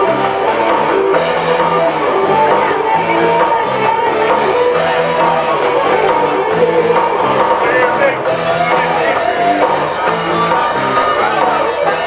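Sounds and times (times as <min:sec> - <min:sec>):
guitar strumming: 0:00.0 - 0:12.0
steady drum beat: 0:00.0 - 0:12.0.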